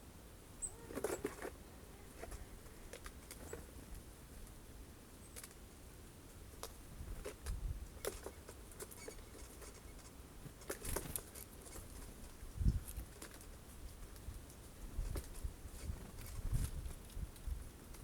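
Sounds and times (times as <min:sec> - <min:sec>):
birds pecking at seeds: 0:00.6 - 0:18.0.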